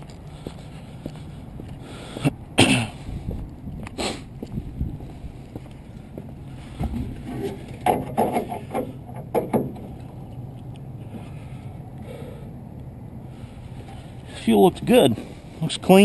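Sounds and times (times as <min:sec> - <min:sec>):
steady low rumble: 0:00.0 - 0:07.8, 0:08.6 - 0:16.0.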